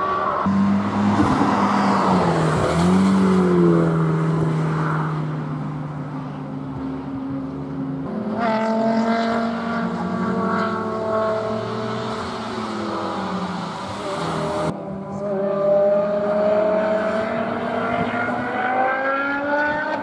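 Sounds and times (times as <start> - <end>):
higher-pitched race car engine: 0.0 - 20.0
race car engine at high revs: 0.0 - 20.0.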